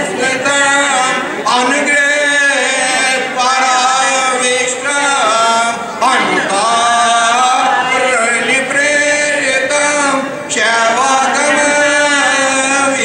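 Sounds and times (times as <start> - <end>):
man chanting verses: 0.0 - 13.0.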